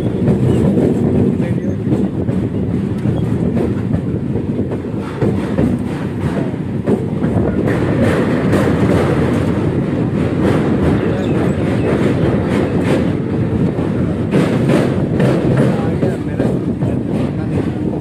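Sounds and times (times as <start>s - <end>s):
train wheels rumbling on rails: 0.0s - 18.0s
wheels clicking over rail joints: 0.0s - 18.0s.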